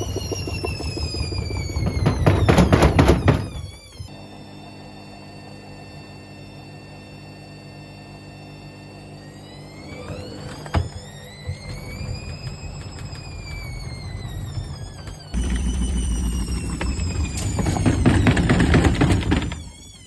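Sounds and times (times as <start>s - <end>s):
washing machine motor whining: 0.0s - 20.0s.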